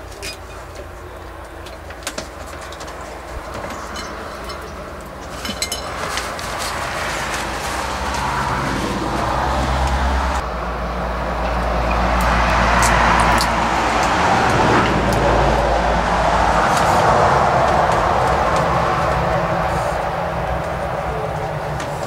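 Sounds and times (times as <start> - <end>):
traffic engine hum: 0.0 - 22.0
traffic rushing noise: 0.0 - 22.0.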